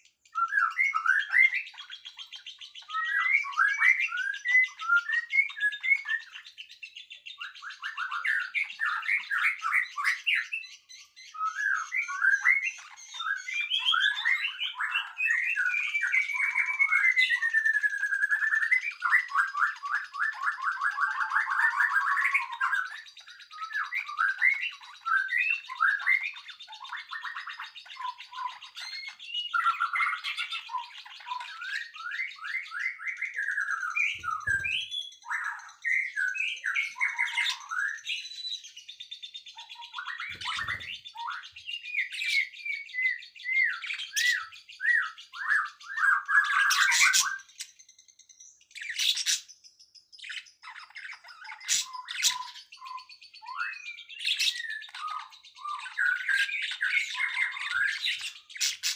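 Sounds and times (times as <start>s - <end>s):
songbirds singing: 0.0s - 58.9s.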